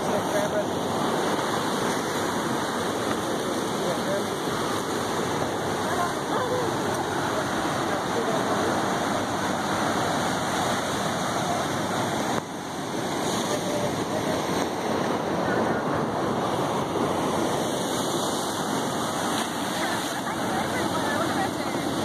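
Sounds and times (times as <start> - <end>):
ocean surf breaking over rocks: 0.0 - 22.0.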